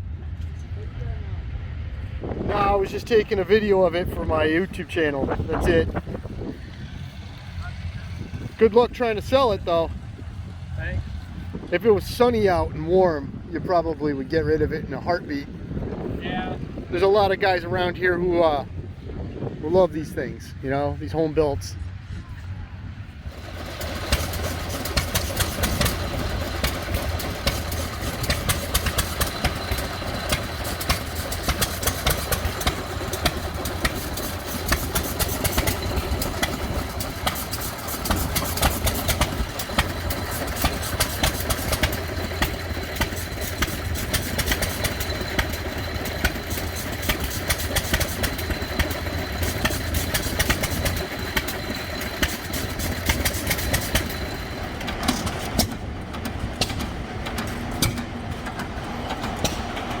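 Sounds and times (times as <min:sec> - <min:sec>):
engine idling: 0:00.0 - 1:00.0.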